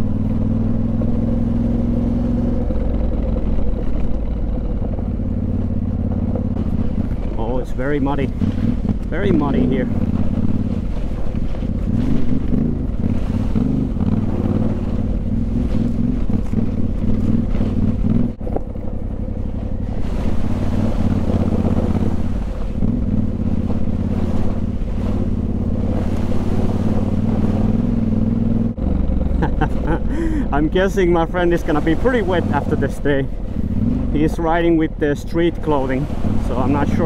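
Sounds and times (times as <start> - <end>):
motorcycle engine rumbling: 0.0 - 37.0.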